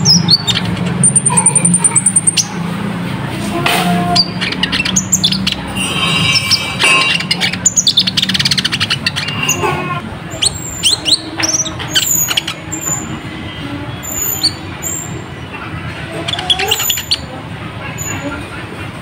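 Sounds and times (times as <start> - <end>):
bird singing chirps and trills: 0.0 - 2.7, 4.1 - 15.4, 16.1 - 17.4.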